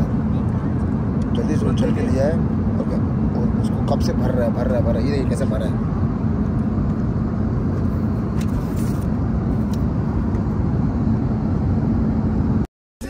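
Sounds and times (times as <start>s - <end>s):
airliner engine and airflow drone: 0.0s - 12.7s
low hum: 0.0s - 12.7s.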